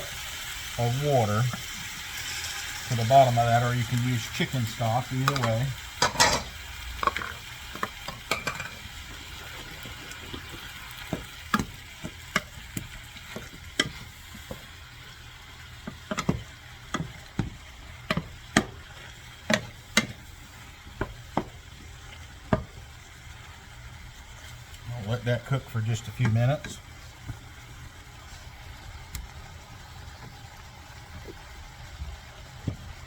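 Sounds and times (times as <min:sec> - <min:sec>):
stir fry sizzling in a pan: 0:00.0 - 0:33.0.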